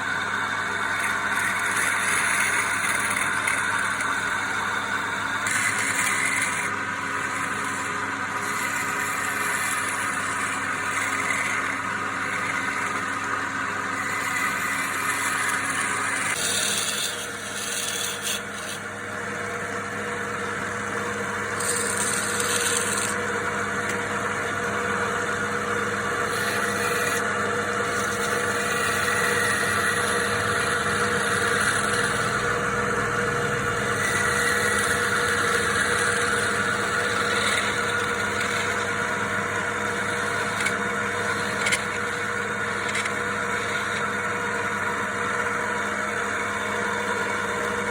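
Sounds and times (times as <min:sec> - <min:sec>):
tool scraping spinning wood: 0:00.0 - 0:47.9
wood lathe motor hum: 0:00.0 - 0:47.9.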